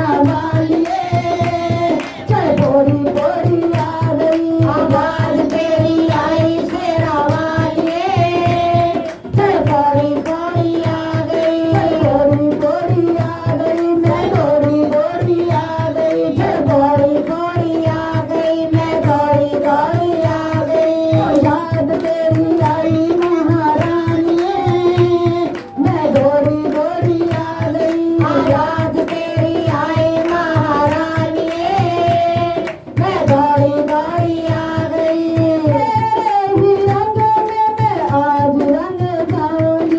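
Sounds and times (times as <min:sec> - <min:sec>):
hand drum beat: 0:00.0 - 0:39.9.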